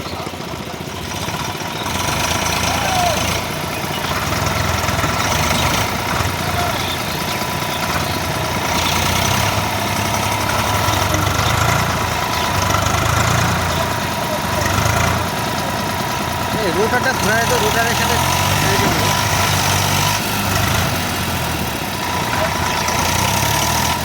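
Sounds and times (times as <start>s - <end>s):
tractor engine straining: 0.0s - 24.0s.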